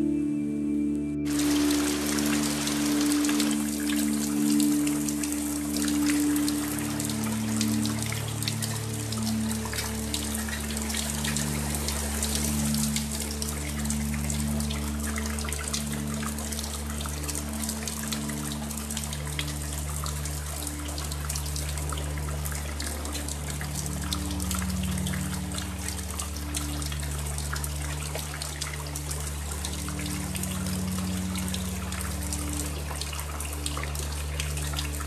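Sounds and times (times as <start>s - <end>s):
water dripping: 0.9s - 35.0s
steady rain: 1.3s - 35.0s
water trickling: 1.3s - 35.0s.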